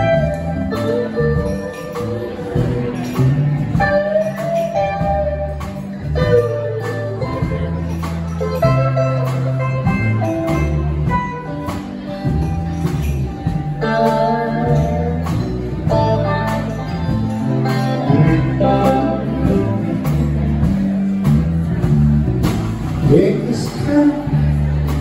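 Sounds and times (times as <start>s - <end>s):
acoustic guitar: 0.0s - 25.0s
drum kit beat: 0.0s - 25.0s
electric bass: 0.0s - 25.0s
electric guitar: 0.0s - 25.0s.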